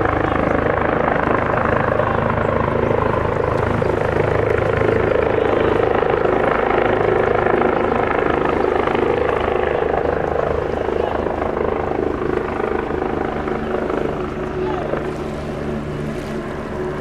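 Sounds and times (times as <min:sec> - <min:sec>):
helicopter rotor beat: 0:00.0 - 0:17.0
helicopter turbine whine: 0:00.0 - 0:17.0.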